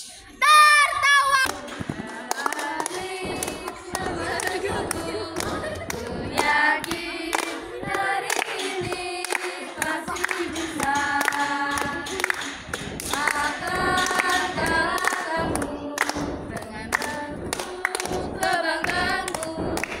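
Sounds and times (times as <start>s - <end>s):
girls singing a cheer: 0.0s - 20.0s
hands clapping: 1.3s - 20.0s.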